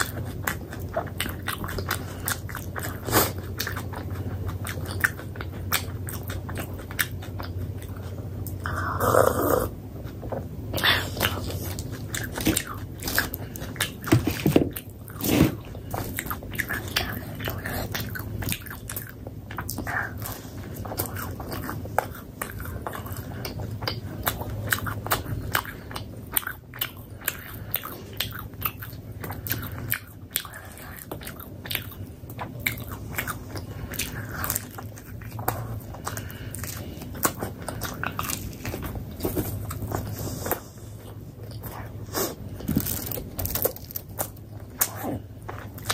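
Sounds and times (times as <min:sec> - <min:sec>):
chewing and biting bread: 0:00.0 - 0:45.9.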